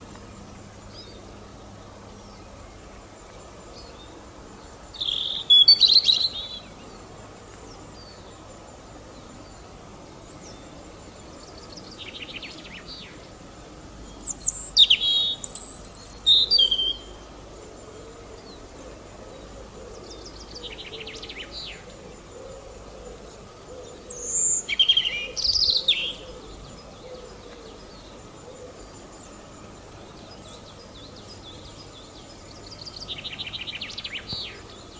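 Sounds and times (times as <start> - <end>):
outdoor background hiss: 0.0 - 34.9
songbirds chirping: 0.0 - 34.9.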